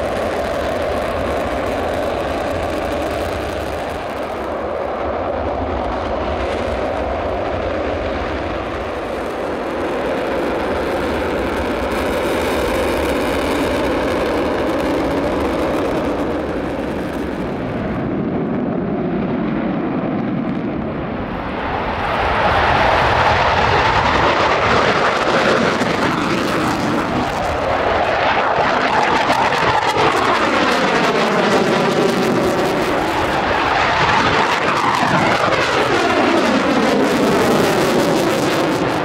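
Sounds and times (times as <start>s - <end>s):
jet engines running steadily: 0.0s - 39.0s.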